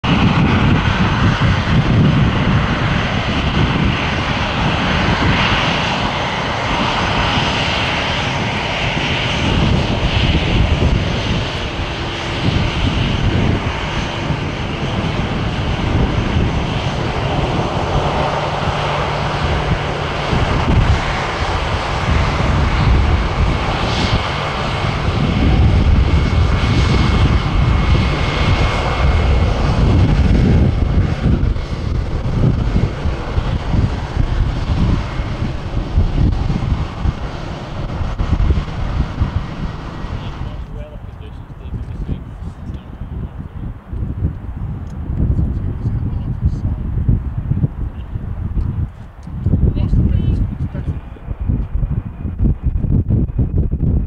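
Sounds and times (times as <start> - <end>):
high engine whine: 0.0 - 54.0
jet engines rumbling: 0.0 - 54.0.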